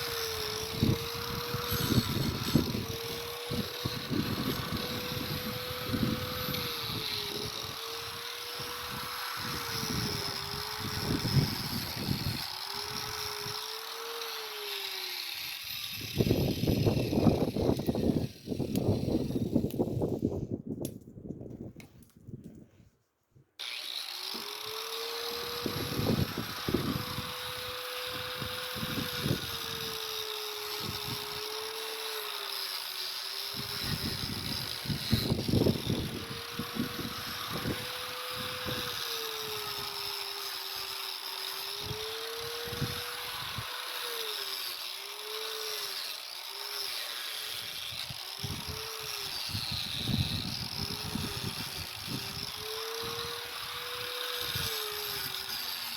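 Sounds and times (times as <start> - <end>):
electric grinder grinding mortar: 0.0 - 20.1, 23.6 - 55.9.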